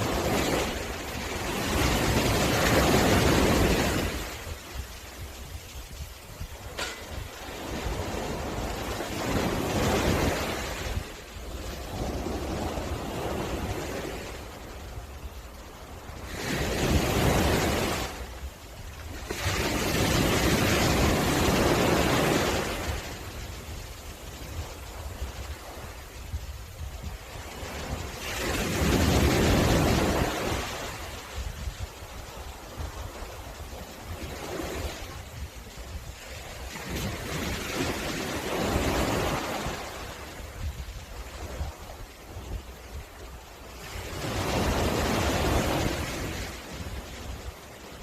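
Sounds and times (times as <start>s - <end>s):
sea waves washing onto beach: 0.0s - 48.0s
wind rumble on microphone: 0.0s - 48.0s.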